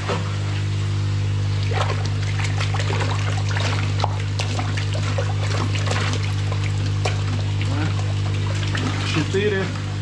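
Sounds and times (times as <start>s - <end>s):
steady low hum: 0.0s - 10.0s
water splashing in a plastic tub: 1.5s - 10.0s.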